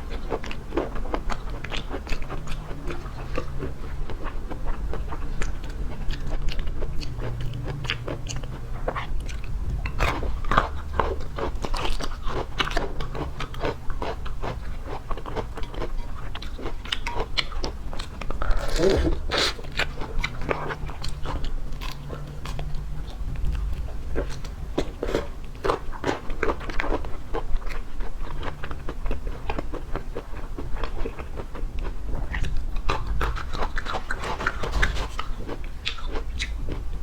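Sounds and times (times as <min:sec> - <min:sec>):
chewing and crunching: 0:00.0 - 0:37.0.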